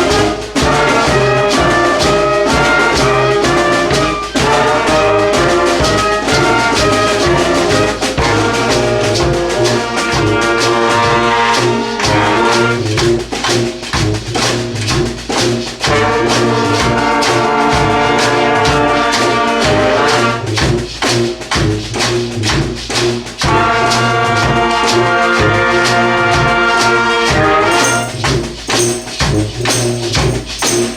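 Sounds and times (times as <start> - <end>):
brass band playing: 0.0 - 30.9
steady drum beat: 0.0 - 30.9
tuba bass line: 0.0 - 30.9.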